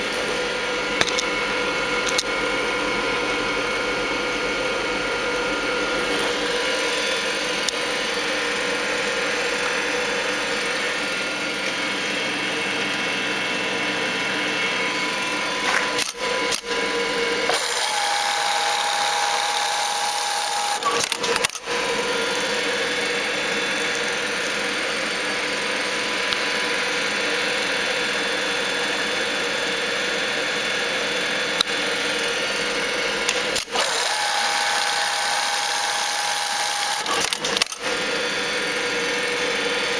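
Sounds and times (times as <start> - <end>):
sewing machine whirring: 0.0 - 39.9.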